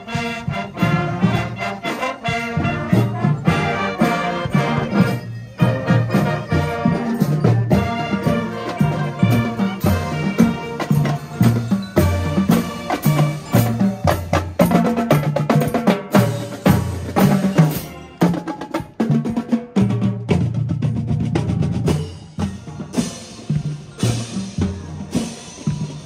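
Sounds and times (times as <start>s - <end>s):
drumline: 0.0s - 26.0s
marching band playing: 0.0s - 26.0s.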